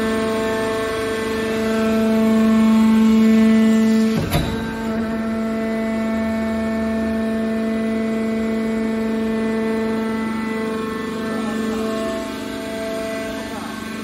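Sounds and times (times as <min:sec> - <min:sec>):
hydraulic pump motor humming: 0:00.0 - 0:14.0.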